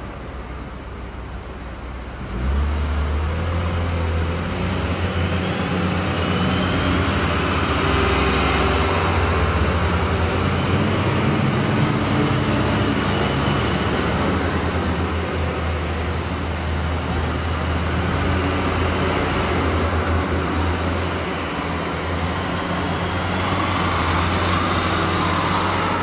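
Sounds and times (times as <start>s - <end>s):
heavy diesel engines humming: 0.0s - 26.0s.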